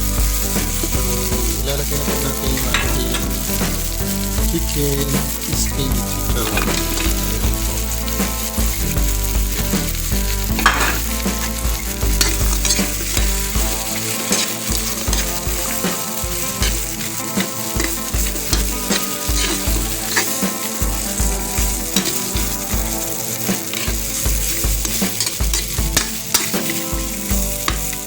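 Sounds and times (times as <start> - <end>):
chicken frying in hot oil: 0.0 - 28.0
utensil scraping pan: 0.0 - 28.0.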